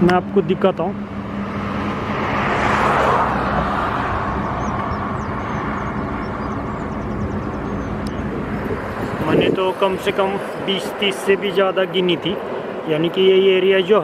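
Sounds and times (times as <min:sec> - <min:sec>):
low engine hum: 0:00.0 - 0:14.0
passing vehicle road noise: 0:00.0 - 0:14.0.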